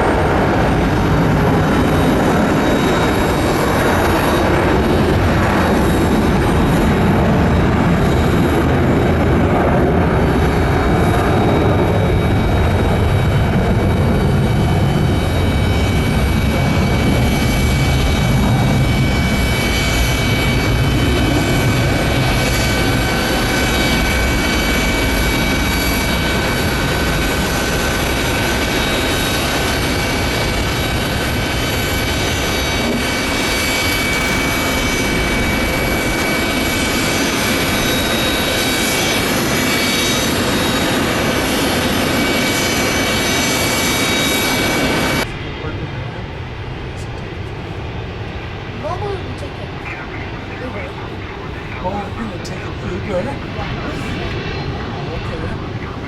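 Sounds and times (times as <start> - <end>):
high jet engine whine: 0.0 - 56.0
jet engines rumbling: 0.0 - 56.0.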